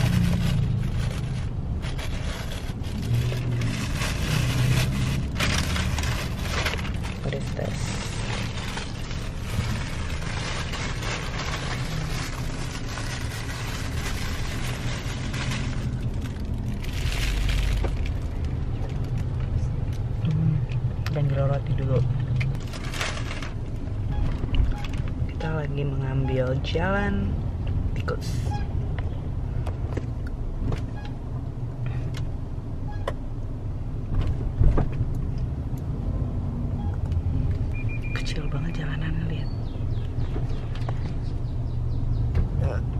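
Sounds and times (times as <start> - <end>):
car road and engine noise: 0.0 - 42.9.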